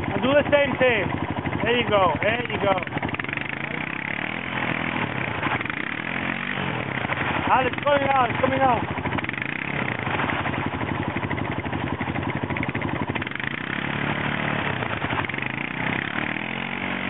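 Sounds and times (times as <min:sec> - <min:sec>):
atv engine under load: 0:00.0 - 0:17.0.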